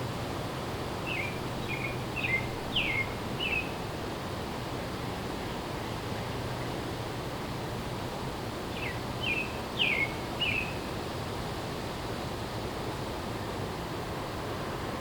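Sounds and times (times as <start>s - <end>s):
wind in the trees: 0.0s - 15.0s.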